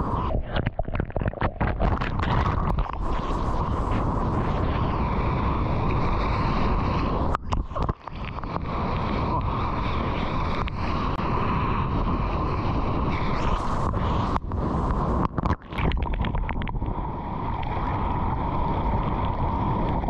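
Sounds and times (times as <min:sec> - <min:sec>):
seawater rushing: 0:00.0 - 0:20.0
wind buffeting microphone: 0:00.0 - 0:20.0.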